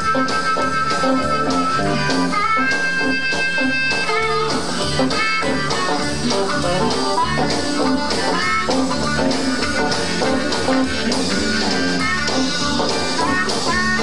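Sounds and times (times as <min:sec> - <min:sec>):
electric guitar bending notes: 0:00.0 - 0:14.0
live blues band playing: 0:00.0 - 0:14.0.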